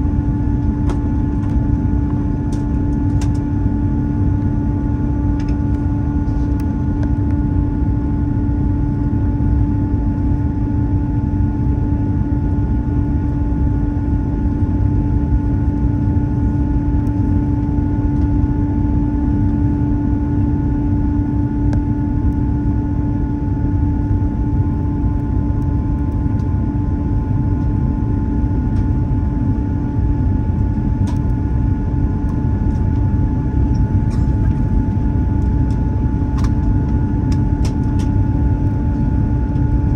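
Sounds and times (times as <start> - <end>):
airliner cabin noise: 0.0 - 39.9.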